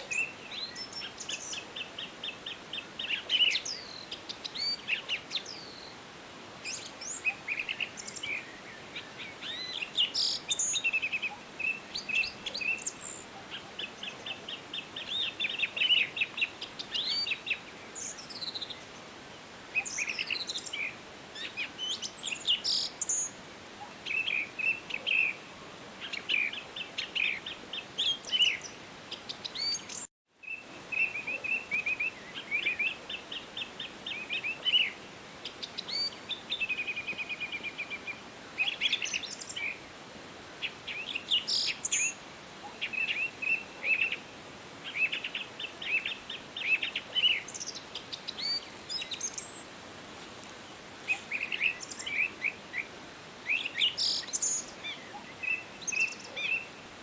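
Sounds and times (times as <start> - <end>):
faint steady hiss: 0.0 - 57.0
songbirds singing and chirping: 0.0 - 57.0.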